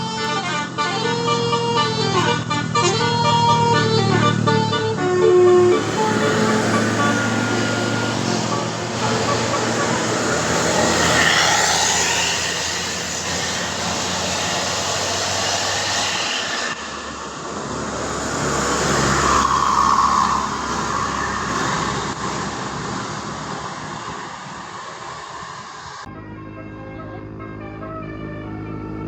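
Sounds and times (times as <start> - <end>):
bus passing: 0.0 - 29.0
road noise rushing: 0.0 - 29.0.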